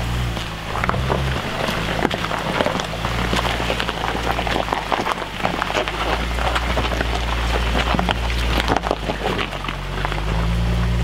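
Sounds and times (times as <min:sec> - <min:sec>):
low engine hum: 0:00.0 - 0:11.0
stones crunching under tyres: 0:00.0 - 0:11.0.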